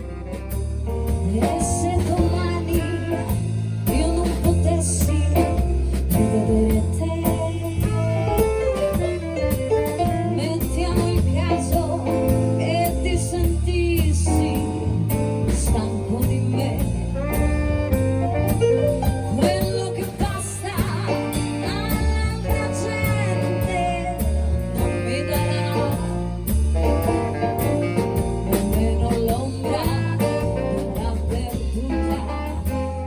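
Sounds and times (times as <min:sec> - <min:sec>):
live band playing: 0:00.0 - 0:33.0.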